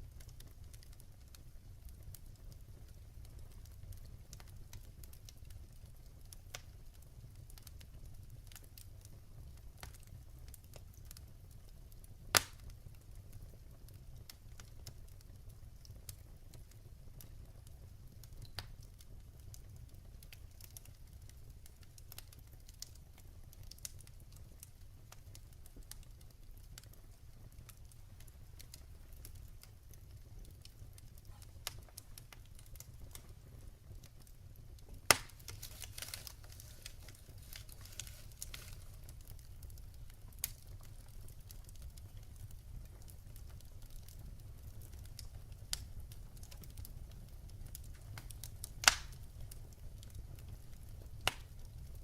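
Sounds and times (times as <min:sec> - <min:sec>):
fire crackling: 0:00.0 - 0:52.0
low fire rumble: 0:00.0 - 0:52.0.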